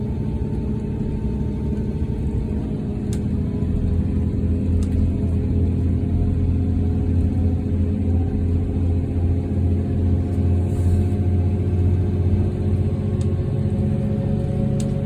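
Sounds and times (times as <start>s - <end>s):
train engine rumble and hum: 0.0s - 15.0s.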